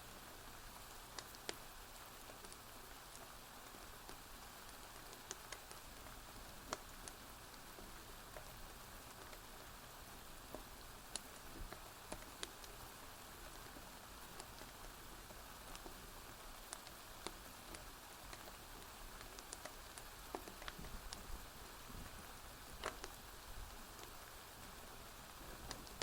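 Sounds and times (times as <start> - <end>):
rain hiss: 0.0 - 26.0
wood fire crackling: 0.0 - 26.0.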